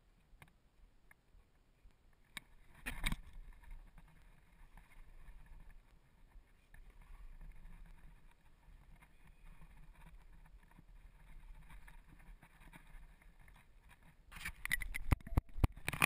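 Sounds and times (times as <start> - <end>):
muffled low rumble and rustling: 1.3 - 16.0.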